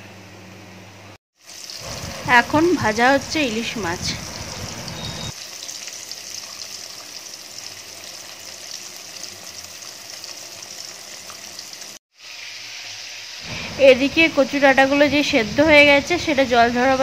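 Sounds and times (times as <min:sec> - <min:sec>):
fish sizzling in hot oil: 0:01.4 - 0:15.0.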